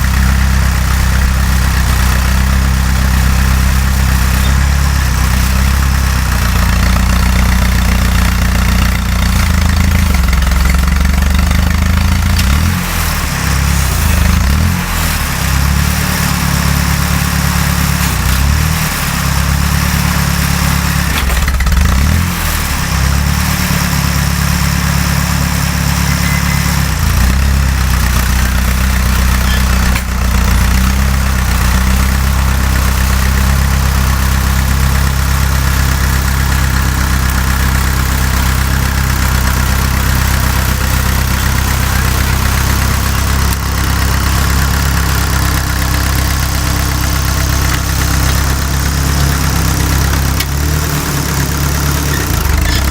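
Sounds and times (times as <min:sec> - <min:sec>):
tractor engine running under load: 0:00.0 - 0:52.9.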